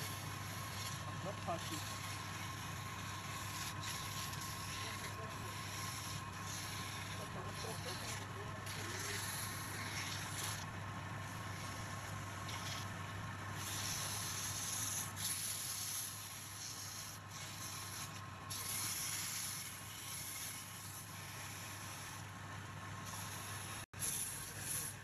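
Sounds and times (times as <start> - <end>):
sandpaper hissing on wood: 0.0 - 10.7, 11.3 - 25.0
lathe humming: 0.0 - 25.0.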